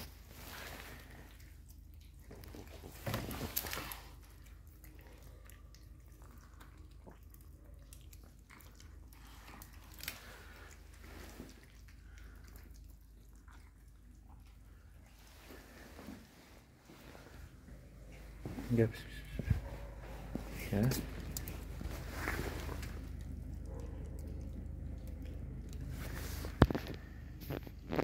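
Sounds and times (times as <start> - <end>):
cats crunching food: 0.0 - 28.0.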